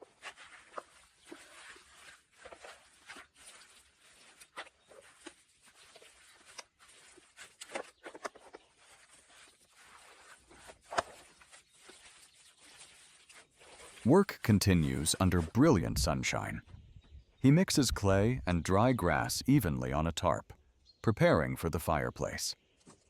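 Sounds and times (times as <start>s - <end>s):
dry grass and clay mixed by hand: 0.0s - 16.8s, 17.4s - 20.5s.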